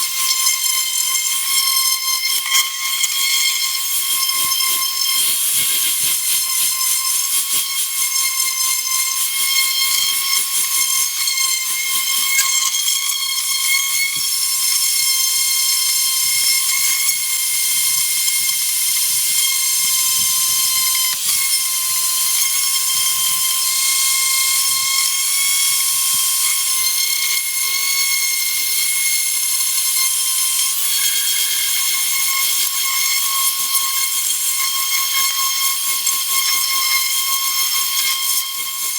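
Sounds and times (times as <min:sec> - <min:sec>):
power sander on wood: 0:00.0 - 0:38.9.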